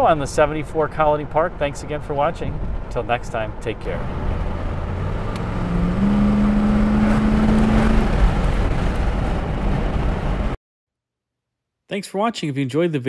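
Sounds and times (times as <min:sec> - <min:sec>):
car engine running: 0:00.0 - 0:10.6
road and wind rumble: 0:00.0 - 0:10.6.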